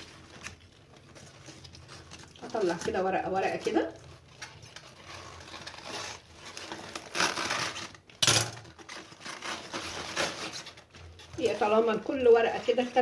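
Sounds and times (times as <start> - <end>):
cabbage leaves crackling and snapping: 0.0 - 13.0.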